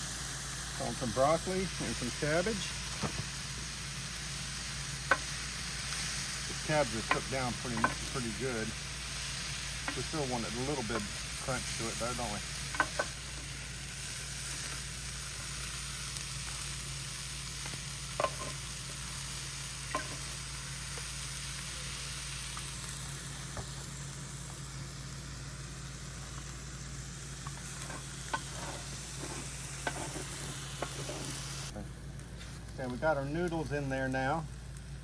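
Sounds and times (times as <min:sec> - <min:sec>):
food sizzling on griddle: 0:00.0 - 0:35.0.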